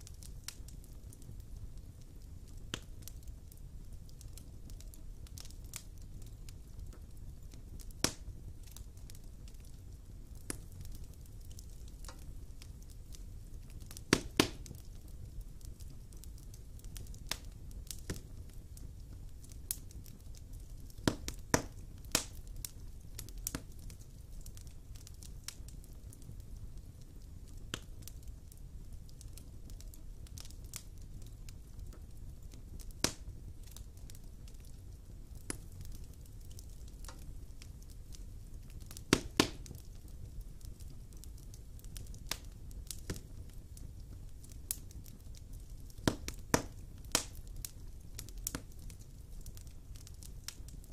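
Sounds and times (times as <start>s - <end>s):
burning logs popping: 0.0s - 50.9s
wood fire crackling: 0.0s - 50.9s.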